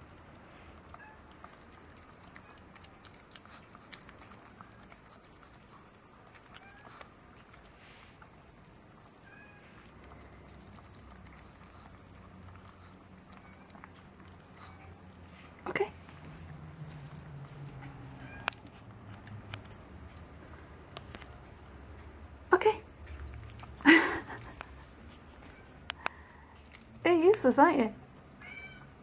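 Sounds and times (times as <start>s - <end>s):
dog licking and nibbling: 0.8s - 15.3s, 16.0s - 21.4s, 23.0s - 27.0s.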